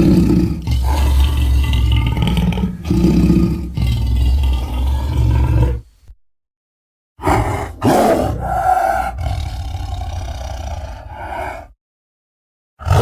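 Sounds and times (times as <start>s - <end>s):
deep dinosaur roar: 0.0s - 5.9s, 7.2s - 11.8s, 12.8s - 13.0s.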